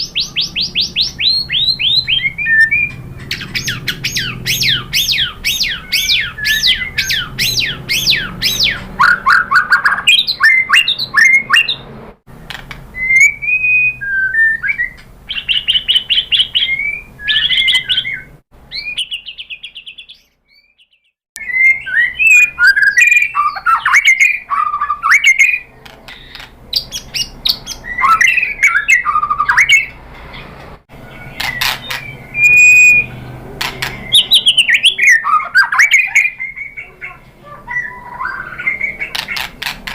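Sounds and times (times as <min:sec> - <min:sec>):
bird singing varied whistles: 0:00.0 - 0:11.8, 0:13.0 - 0:25.7, 0:26.8 - 0:30.0, 0:31.4 - 0:36.8.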